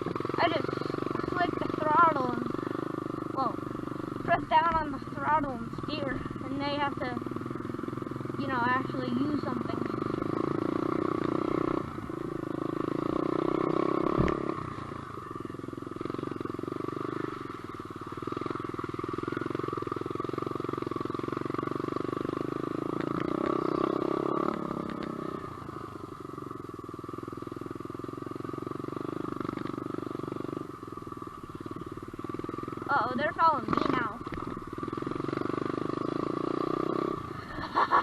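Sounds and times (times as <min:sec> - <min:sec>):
motorbike engine revving: 0:00.0 - 0:38.0.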